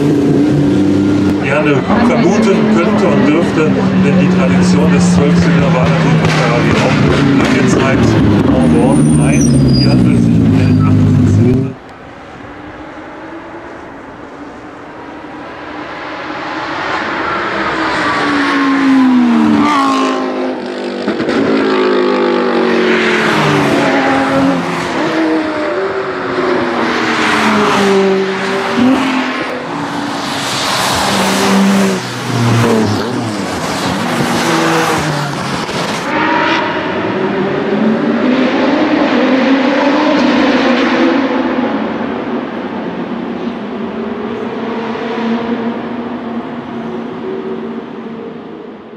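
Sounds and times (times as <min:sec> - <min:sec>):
race car engine accelerating: 0:00.0 - 0:11.9, 0:14.8 - 0:48.6.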